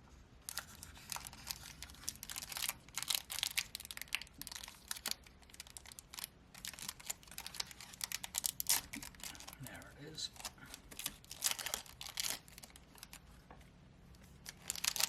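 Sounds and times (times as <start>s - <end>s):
foil wrapper crinkling and tearing: 0.4s - 9.7s, 10.3s - 13.4s, 14.3s - 15.0s.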